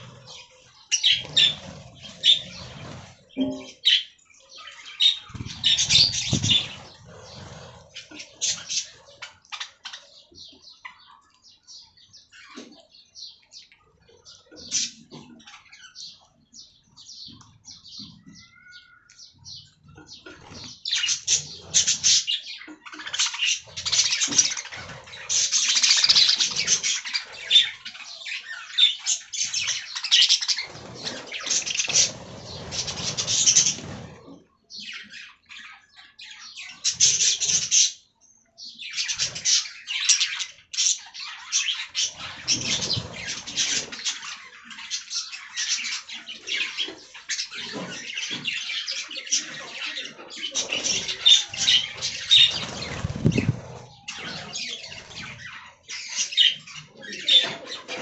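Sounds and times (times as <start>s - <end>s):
budgerigars chattering: 0.0s - 11.2s, 14.3s - 34.0s, 38.8s - 58.0s.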